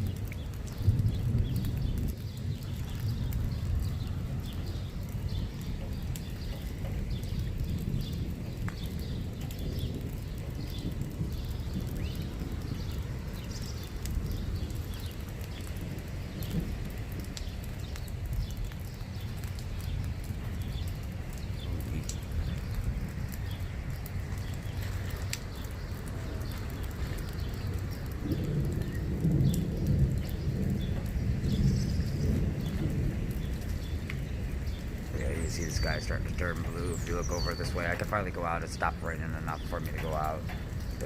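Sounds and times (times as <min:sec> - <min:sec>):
light rain ticks: 0:00.0 - 0:41.0.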